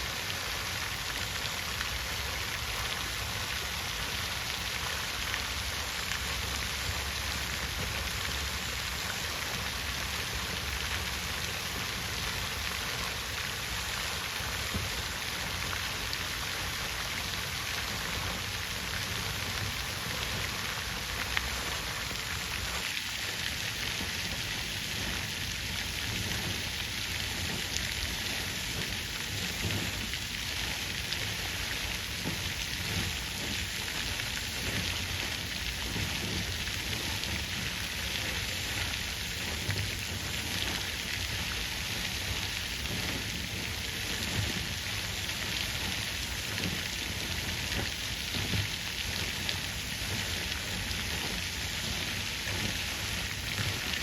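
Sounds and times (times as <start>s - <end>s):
water fountain splashing: 0.0s - 54.0s.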